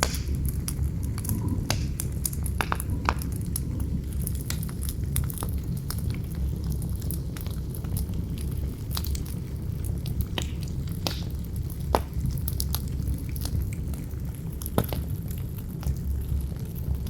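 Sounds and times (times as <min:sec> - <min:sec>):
campfire crackling and popping: 0:00.0 - 0:17.0
low rumble of wind: 0:00.0 - 0:17.0.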